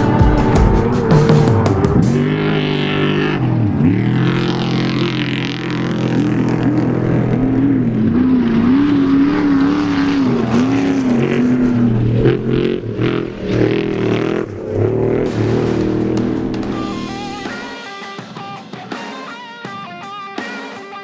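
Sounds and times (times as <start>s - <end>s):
race vehicle engine revving: 0.0s - 17.8s.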